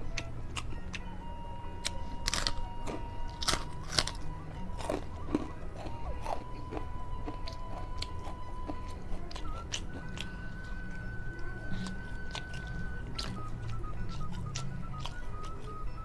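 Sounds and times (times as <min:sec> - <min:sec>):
crunching and chewing crackers: 0:00.0 - 0:16.0.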